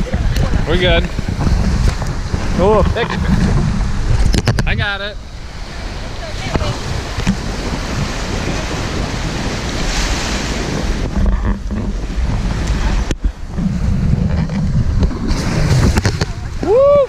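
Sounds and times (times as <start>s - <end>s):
rushing sea water and surf: 0.0s - 17.0s
wind buffeting microphone: 0.0s - 17.0s.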